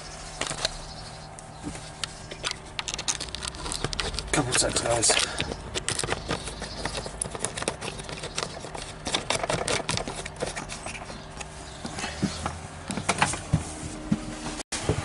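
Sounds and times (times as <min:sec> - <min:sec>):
low steady hum: 0:00.0 - 0:15.0
clicks and knocks of objects handled: 0:00.4 - 0:00.8, 0:01.6 - 0:13.4.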